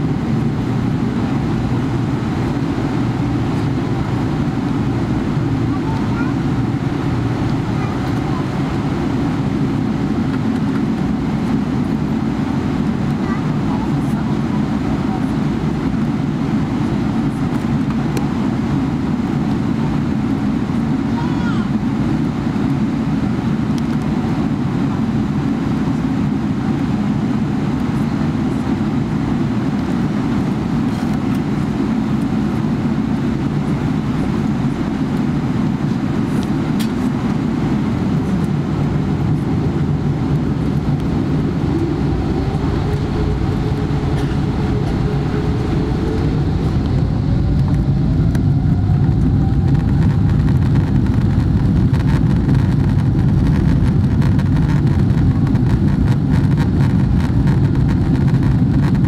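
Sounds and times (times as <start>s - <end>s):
airplane cabin rumble: 0.0s - 59.0s
jet engine whine rising: 0.0s - 59.0s.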